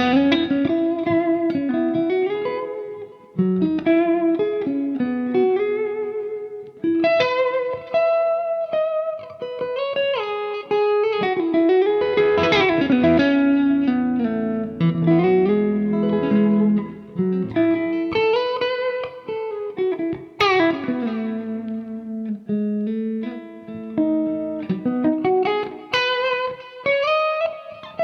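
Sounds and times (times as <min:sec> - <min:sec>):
electric guitar melodic lines: 0:00.0 - 0:28.0.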